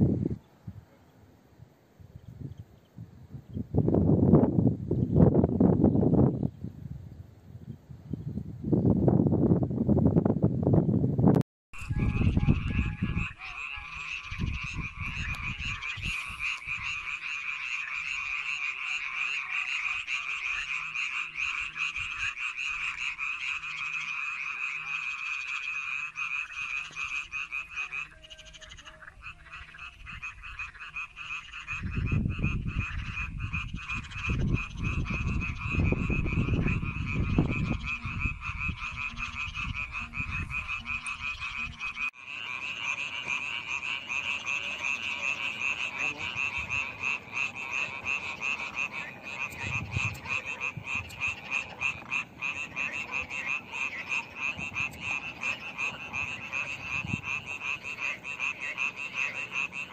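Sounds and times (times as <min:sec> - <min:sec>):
frogs calling in chorus: 0:11.8 - 0:59.9.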